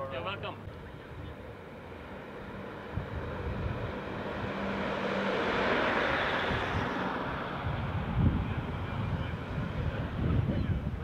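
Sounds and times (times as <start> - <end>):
bus engine: 0.0 - 11.0.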